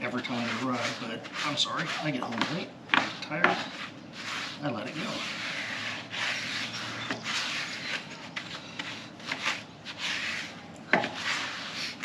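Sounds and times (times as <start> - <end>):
stiff brush scrubbing metal wheel: 0.0 - 12.0.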